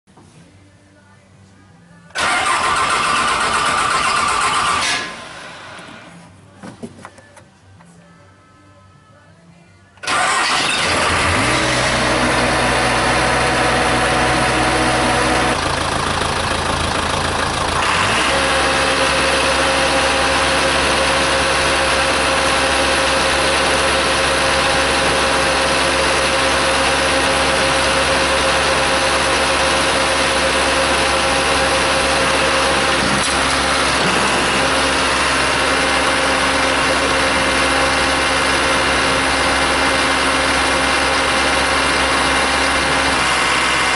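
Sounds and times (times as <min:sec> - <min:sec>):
backhoe engine running: 0:02.1 - 0:06.2, 0:10.0 - 0:43.9.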